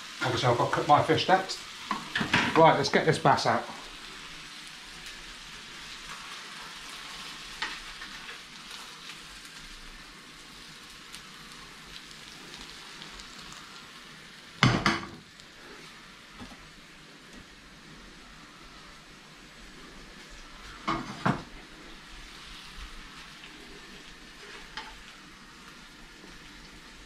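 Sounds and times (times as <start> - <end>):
fish sizzling in butter: 0.0 - 27.0.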